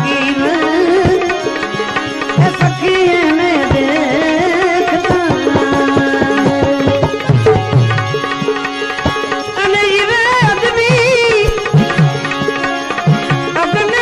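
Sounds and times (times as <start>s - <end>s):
tabla playing: 0.0s - 14.0s
wavering melody instrument: 0.0s - 14.0s.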